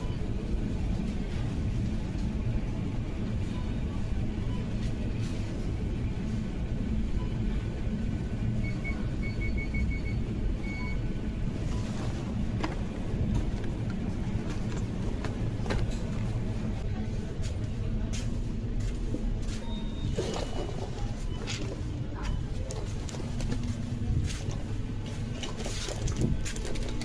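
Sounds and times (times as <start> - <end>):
street traffic rumbling: 0.0 - 27.0.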